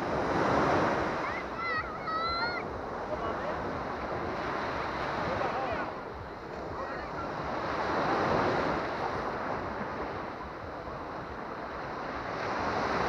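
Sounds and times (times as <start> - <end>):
small waves washing up beach: 0.0 - 13.0.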